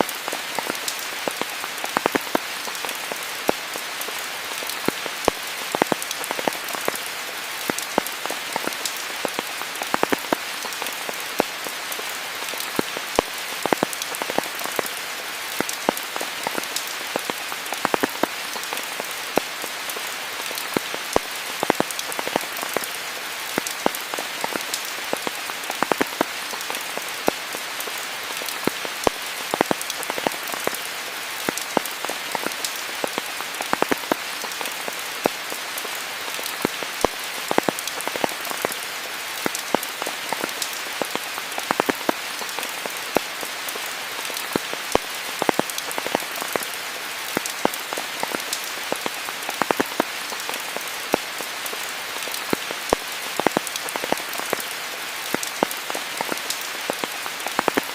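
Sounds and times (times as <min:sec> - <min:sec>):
raindrops striking close by: 0:00.0 - 0:57.9
steady rain hiss: 0:00.0 - 0:57.9.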